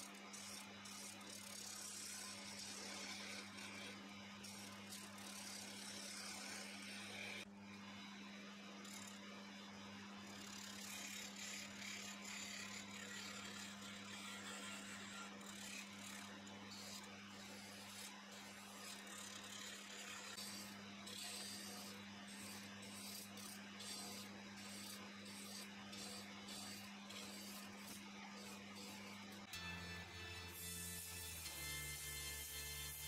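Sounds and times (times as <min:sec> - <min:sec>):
chisel cutting spinning wood: 0:00.0 - 0:07.5, 0:10.2 - 0:29.6.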